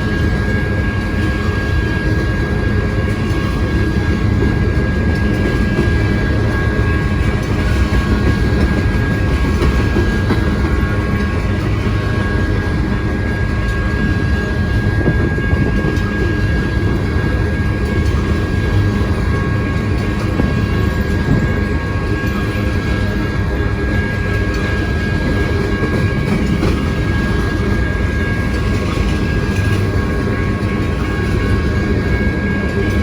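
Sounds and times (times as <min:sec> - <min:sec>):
thin high whine: 0:00.0 - 0:33.0
train wheels rumbling on rail: 0:00.0 - 0:33.0.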